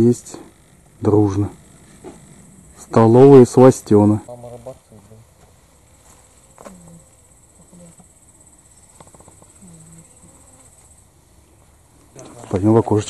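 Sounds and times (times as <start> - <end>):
high-pitched insect buzz: 0.0 - 5.2, 5.8 - 11.7.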